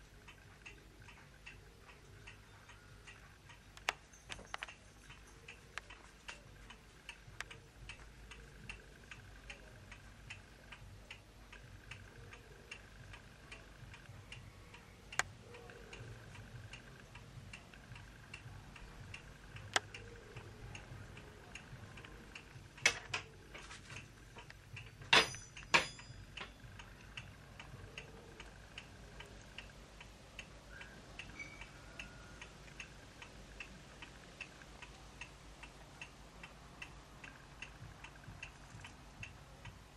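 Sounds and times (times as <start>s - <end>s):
light steady ticking: 0.0s - 39.9s.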